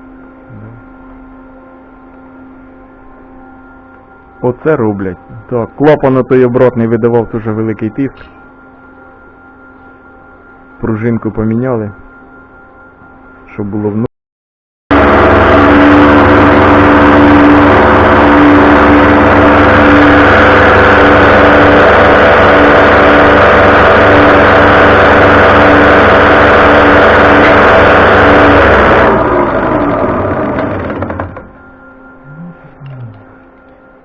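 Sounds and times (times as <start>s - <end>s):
fuel pump mechanical whine: 0.0s - 14.1s, 14.9s - 34.0s.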